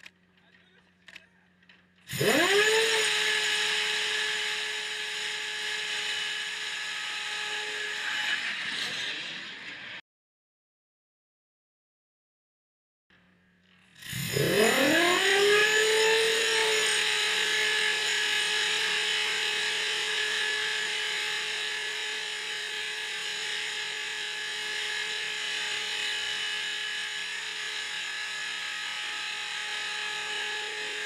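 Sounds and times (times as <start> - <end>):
high-pitched motor whine: 1.6 - 10.0, 13.2 - 31.0.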